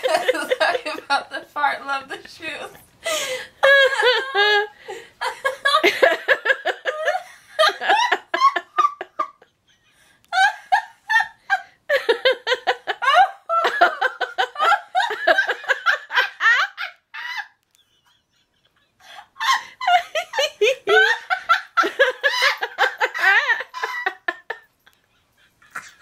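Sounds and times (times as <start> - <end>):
woman laughing hard: 0.0 - 1.1, 3.0 - 9.7, 10.3 - 26.0.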